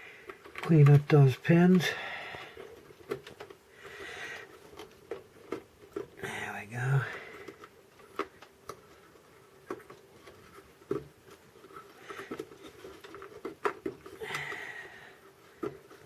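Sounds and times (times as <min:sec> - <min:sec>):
faint steady hum: 0:00.0 - 0:16.0
connectors clicking and rattling: 0:00.2 - 0:06.2, 0:07.0 - 0:16.0.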